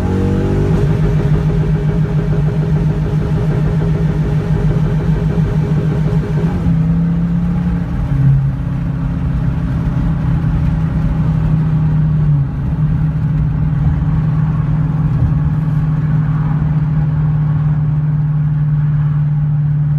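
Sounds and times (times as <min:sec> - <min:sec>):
car engine at high revs: 0:00.0 - 0:19.9.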